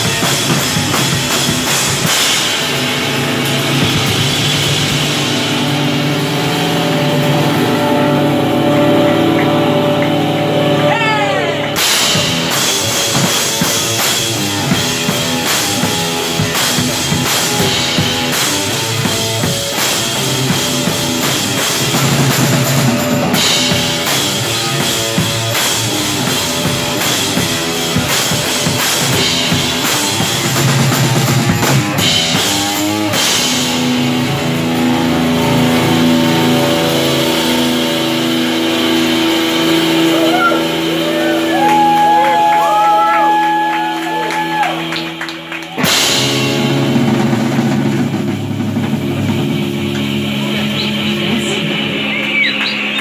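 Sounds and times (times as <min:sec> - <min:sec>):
drum kit with cymbals: 0:00.0 - 0:53.0
electric guitar: 0:00.0 - 0:53.0.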